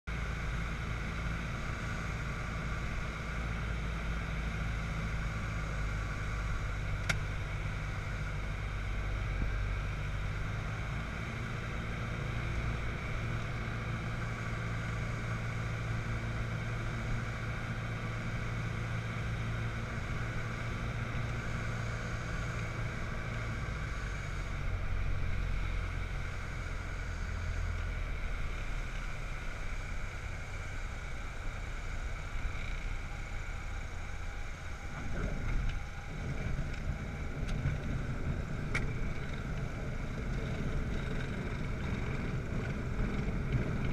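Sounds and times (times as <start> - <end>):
aircraft engine droning: 0.1 - 43.9.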